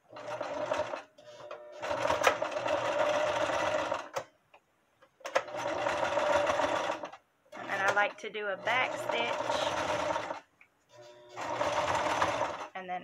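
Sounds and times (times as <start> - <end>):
sewing machine stitching: 0.0 - 4.3, 5.2 - 12.8.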